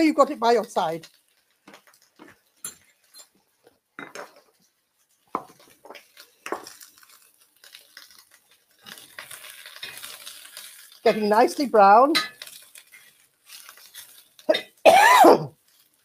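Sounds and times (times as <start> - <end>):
faint frying sizzle: 0.0 - 16.0.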